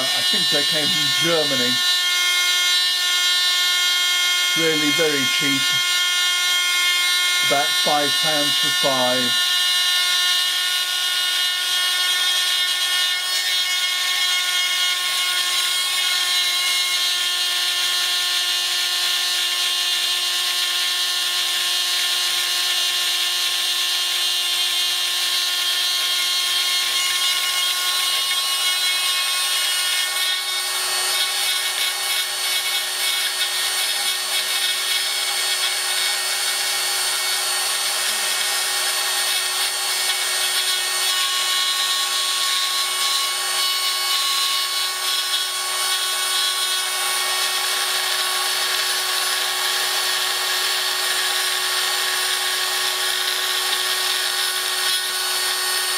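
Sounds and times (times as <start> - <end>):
cutter rasping in metal: 0.0 - 55.9
drill motor whine: 0.0 - 55.9.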